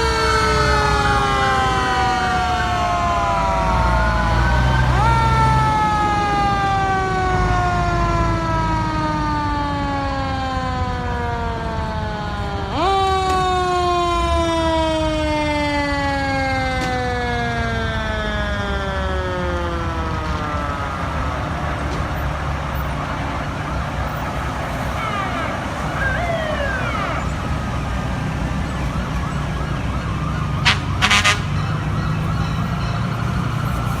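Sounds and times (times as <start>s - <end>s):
mechanical siren wailing: 0.0s - 34.0s.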